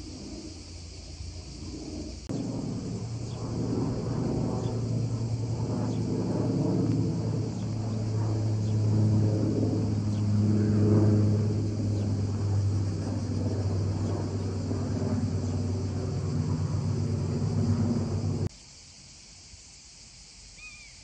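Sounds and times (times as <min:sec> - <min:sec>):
propeller aircraft flying overhead: 0:00.0 - 0:18.5.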